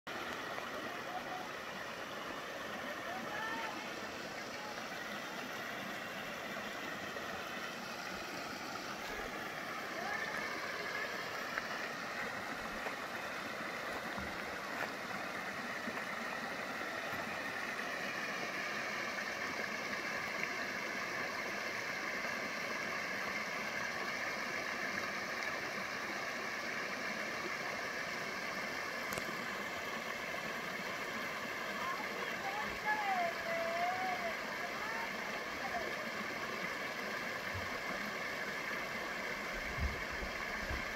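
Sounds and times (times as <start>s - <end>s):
creek water rushing over rocks: 0.1s - 40.9s.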